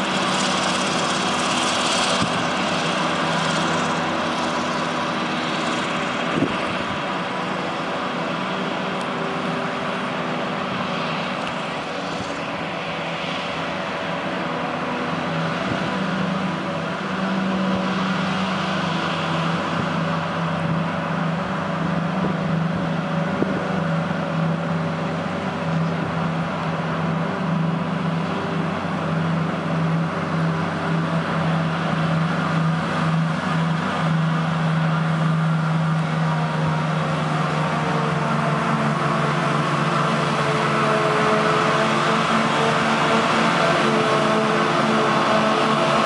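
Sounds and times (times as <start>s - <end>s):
harvester engine drone: 0.0s - 46.0s
rush of chopper: 0.0s - 46.0s.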